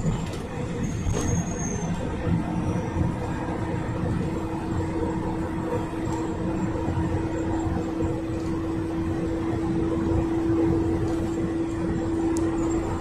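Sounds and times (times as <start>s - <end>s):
engine drone: 0.0s - 13.0s
road rumble: 0.0s - 13.0s
steady humming tone: 1.9s - 13.0s.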